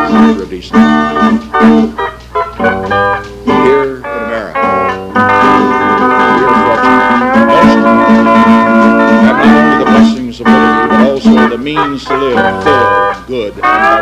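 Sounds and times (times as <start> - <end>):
band playing: 0.0 - 14.0.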